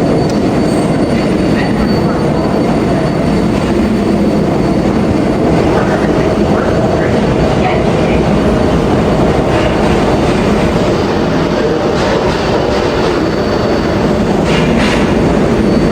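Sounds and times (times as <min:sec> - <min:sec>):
subway train running on rails: 0:00.0 - 0:15.9.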